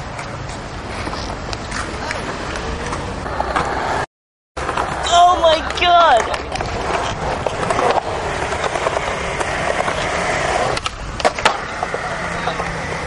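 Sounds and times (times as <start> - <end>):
skateboard wheels rolling on concrete: 0.0 - 13.0
skateboard clacks: 0.1 - 4.0, 4.6 - 13.0.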